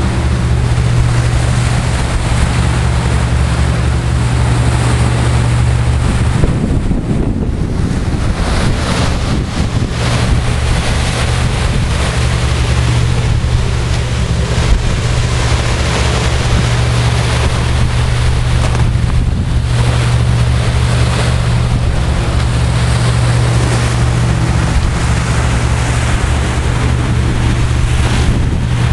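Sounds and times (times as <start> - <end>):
bow wave rushing through sea: 0.0 - 28.9
heavy low rumble: 0.0 - 28.9
wind buffeting microphone: 0.0 - 28.9.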